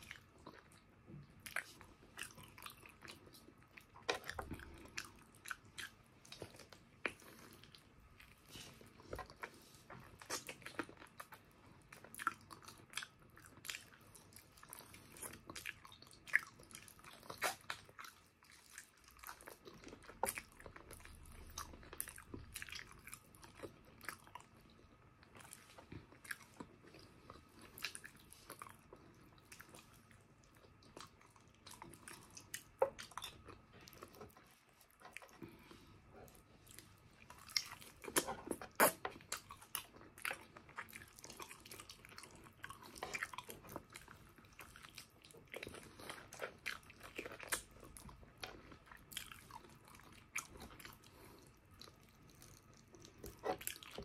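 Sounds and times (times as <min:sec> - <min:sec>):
close chewing with wet smacks: 0:00.0 - 0:54.0.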